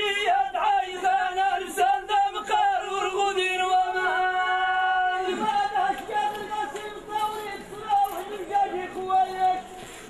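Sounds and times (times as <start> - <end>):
man chanting a sung verse: 0.0 - 9.8.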